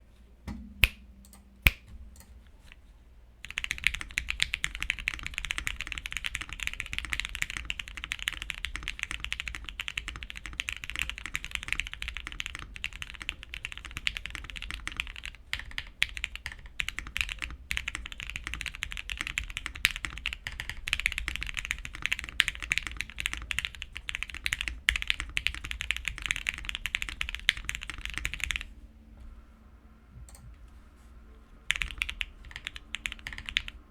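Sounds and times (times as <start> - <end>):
mechanical keyboard typing: 3.4 - 28.7, 31.7 - 33.9.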